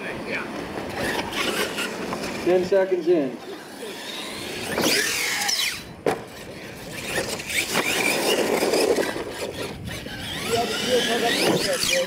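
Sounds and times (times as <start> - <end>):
tyres on dirt: 0.0 - 12.0
electric toy truck motor whining: 0.9 - 2.5, 3.4 - 12.0.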